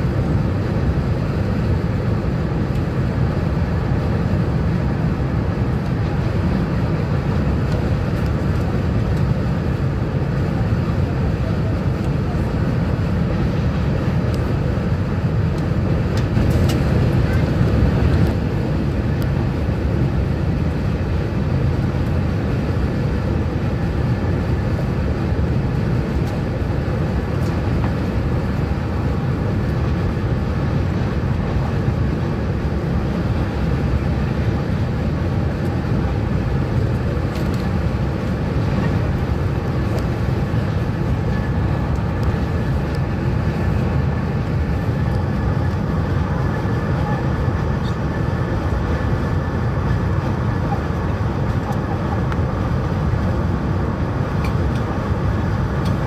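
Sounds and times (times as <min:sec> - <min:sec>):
train rumbling from inside: 0:00.0 - 0:56.0.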